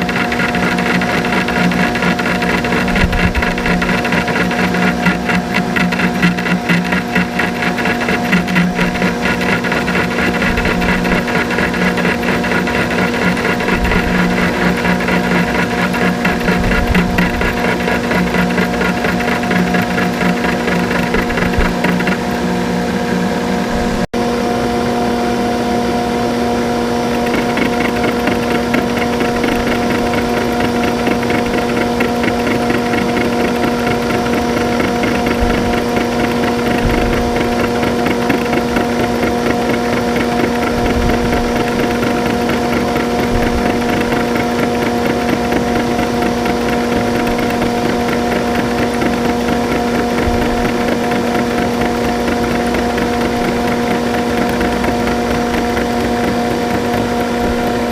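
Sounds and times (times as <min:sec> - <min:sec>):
rattling metal cutting: 0:00.0 - 0:24.1, 0:26.6 - 0:57.9
machine tool humming: 0:00.0 - 0:57.9.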